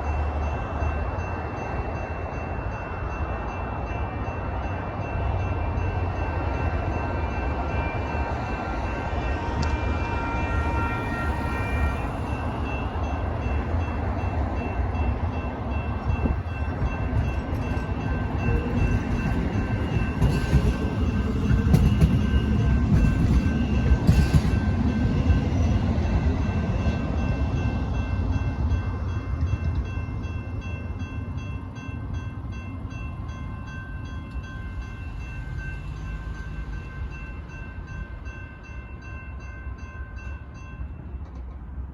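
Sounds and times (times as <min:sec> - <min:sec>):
crossing warning bell ringing: 0:00.0 - 0:41.3
light rail train rumbling past: 0:00.0 - 0:41.9.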